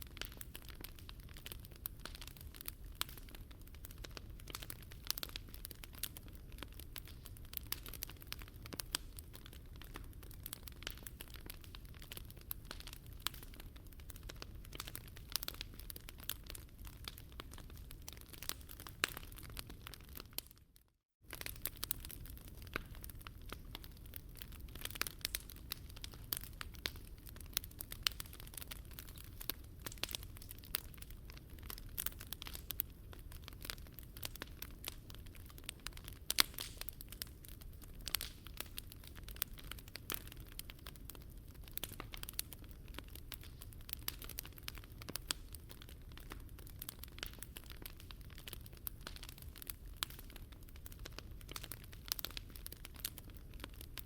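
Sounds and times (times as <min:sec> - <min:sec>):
fire low rumble: 0:00.0 - 0:20.4, 0:21.3 - 0:54.0
wood fire crackling and popping: 0:00.0 - 0:54.0.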